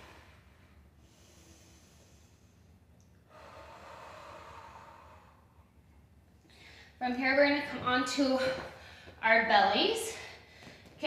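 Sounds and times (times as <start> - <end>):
woman breathing: 0.0 - 7.0, 8.3 - 9.2, 10.0 - 11.0.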